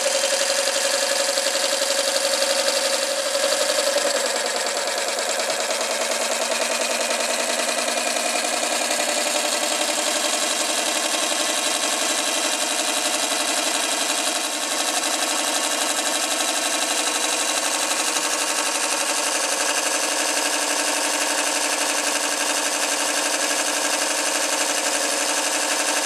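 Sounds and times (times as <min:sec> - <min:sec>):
model steam engine running: 0:00.0 - 0:26.0.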